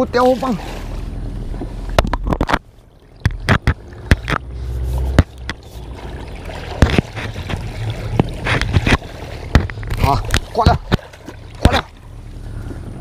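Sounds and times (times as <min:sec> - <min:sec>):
steady low rumble: 0:00.0 - 0:13.0
water splashing: 0:00.0 - 0:13.0.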